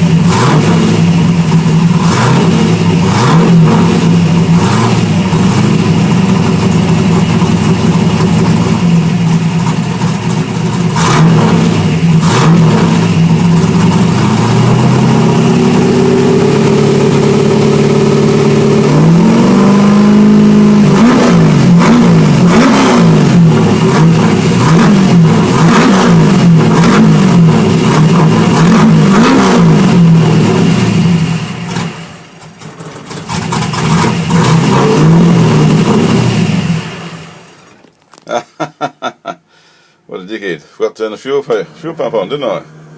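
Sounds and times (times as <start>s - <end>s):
car engine revving: 0.0s - 37.8s, 41.5s - 42.9s.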